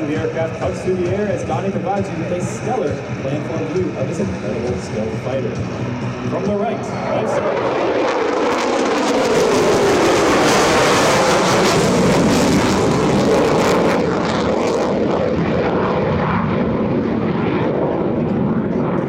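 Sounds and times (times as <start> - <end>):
jet engine roaring past: 0.0 - 19.0.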